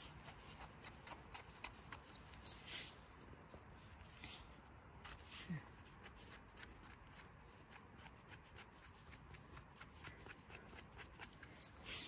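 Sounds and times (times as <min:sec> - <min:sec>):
knife scraping mushroom stem: 0:00.0 - 0:03.0, 0:04.0 - 0:12.0.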